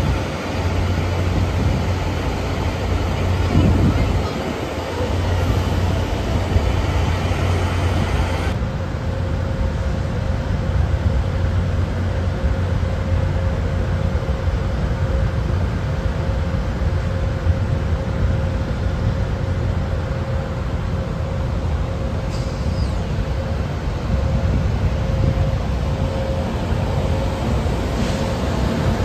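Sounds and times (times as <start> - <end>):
locomotive idling rumble: 0.0 - 29.0.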